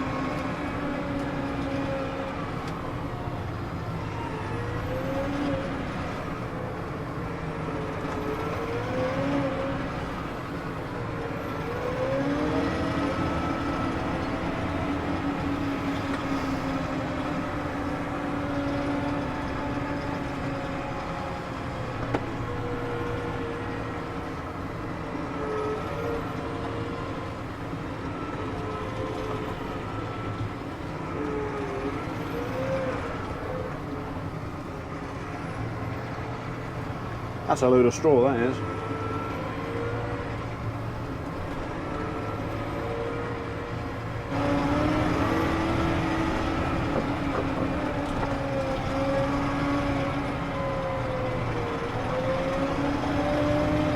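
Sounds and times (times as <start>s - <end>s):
tractor diesel engine revving: 0.0s - 53.9s.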